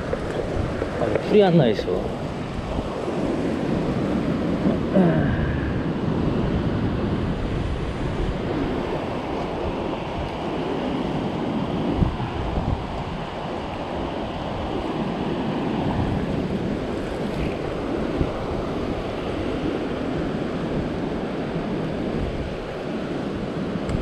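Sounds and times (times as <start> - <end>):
ocean surf washing over rock: 0.0 - 24.0
wind buffeting microphone: 0.0 - 24.0.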